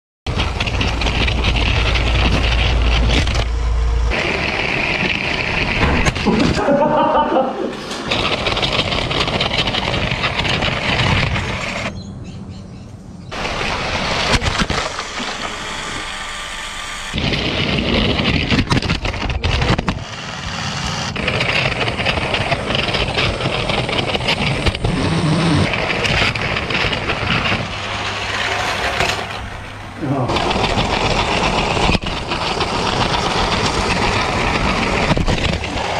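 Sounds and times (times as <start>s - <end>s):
toy train rattling on track: 0.3s - 6.4s, 7.8s - 11.9s, 13.4s - 29.7s, 30.3s - 35.9s.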